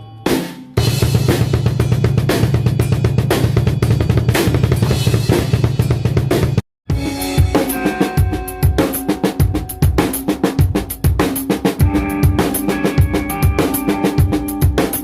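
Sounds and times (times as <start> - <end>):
fast loud drum kit: 0.3 - 15.0.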